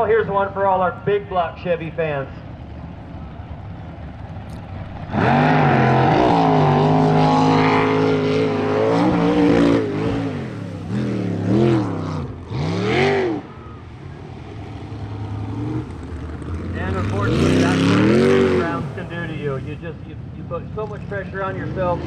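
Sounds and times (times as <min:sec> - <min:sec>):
boat engine revving: 0:01.8 - 0:20.0.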